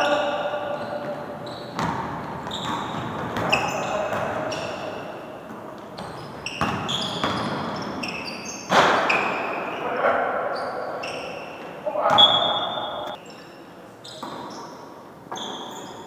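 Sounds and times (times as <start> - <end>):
sneaker squeaks: 0.0 - 16.0.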